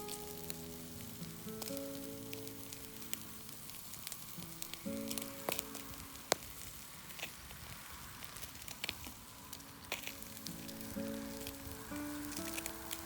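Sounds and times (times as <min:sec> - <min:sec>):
campfire crackling and popping: 0:00.0 - 0:13.0
soft background music: 0:00.0 - 0:13.0.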